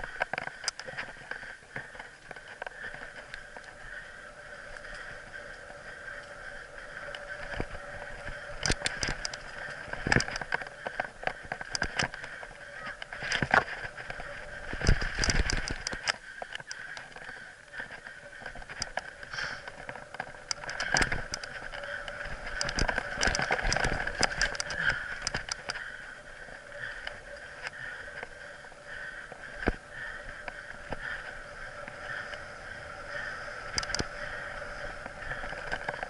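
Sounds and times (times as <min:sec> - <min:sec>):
bike rattling over bumps: 0:00.0 - 0:36.0
bike tyres rolling on dirt: 0:00.0 - 0:36.0.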